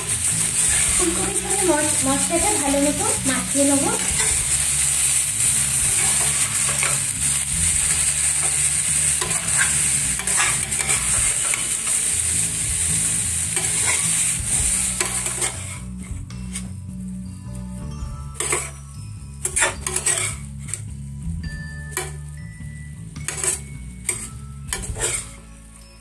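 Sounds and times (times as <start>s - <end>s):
metal spatula scraping a pan: 0.0s - 16.7s, 18.4s - 20.9s, 23.2s - 25.4s
vegetables sizzling in a frying pan: 0.0s - 17.1s, 18.3s - 18.7s, 19.4s - 21.2s, 21.9s - 25.4s.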